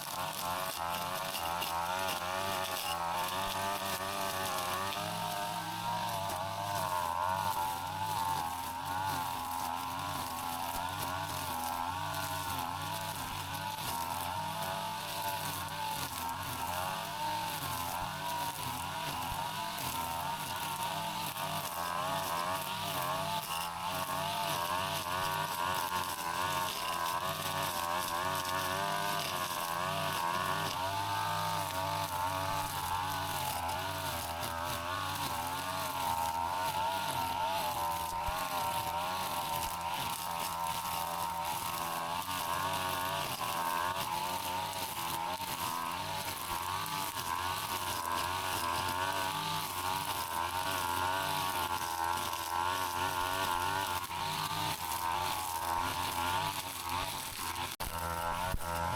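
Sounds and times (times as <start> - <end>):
brush cutter engine running: 0.0 - 58.9.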